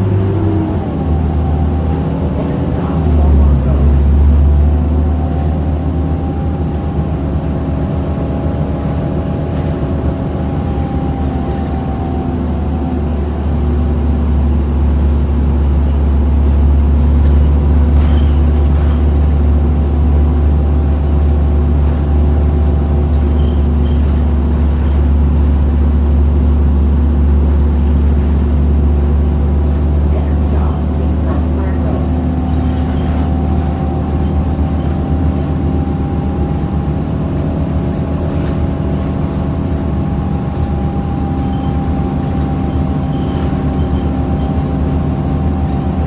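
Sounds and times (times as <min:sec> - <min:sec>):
bus engine drone: 0:00.0 - 0:46.0.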